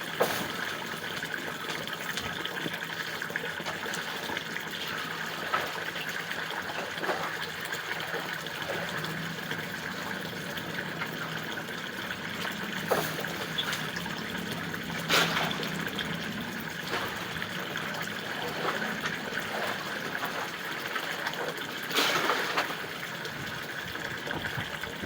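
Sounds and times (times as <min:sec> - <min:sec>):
trickling running water: 0:00.0 - 0:25.0
low even hum: 0:04.1 - 0:25.0.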